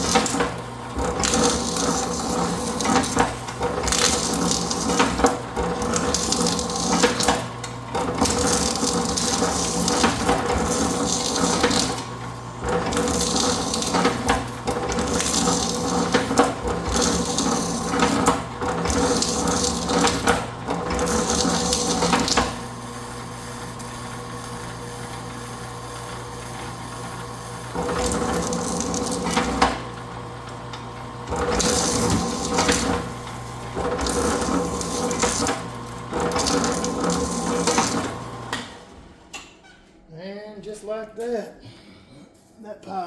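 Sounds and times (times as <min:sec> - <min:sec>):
wire stripper motor hum: 0:00.0 - 0:39.5.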